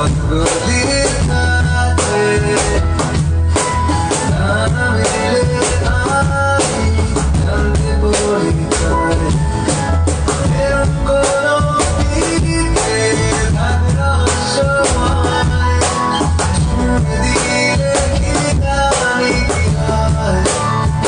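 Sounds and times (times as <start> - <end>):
bass line: 0.0 - 21.0
drum kit beat: 0.0 - 21.0.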